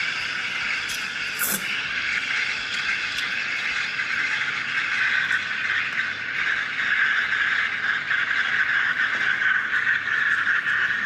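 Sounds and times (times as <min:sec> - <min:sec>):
steam wand hissing into milk: 0:00.0 - 0:11.0.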